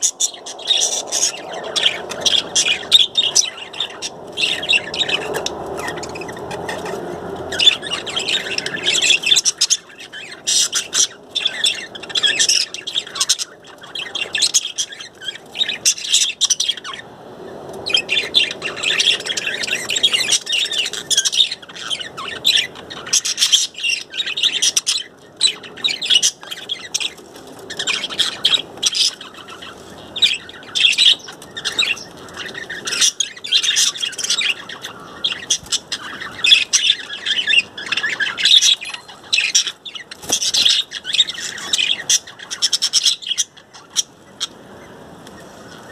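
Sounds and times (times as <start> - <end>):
budgerigars chattering: 0.0 - 17.1, 17.8 - 45.9.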